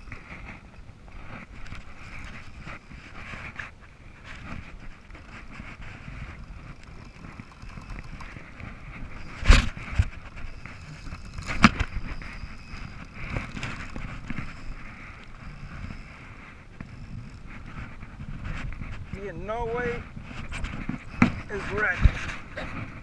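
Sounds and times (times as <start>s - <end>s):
choppy water: 0.0s - 23.0s
wind: 0.0s - 23.0s.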